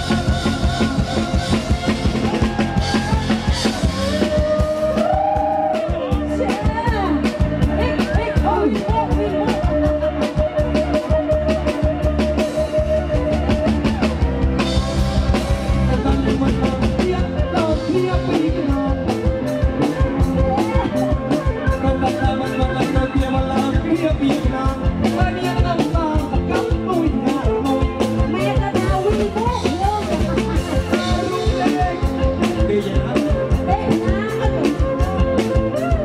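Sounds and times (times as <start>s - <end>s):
person singing: 0.0s - 14.7s, 15.4s - 36.0s
drum kit beat: 0.0s - 36.0s
electric instruments: 0.0s - 36.0s.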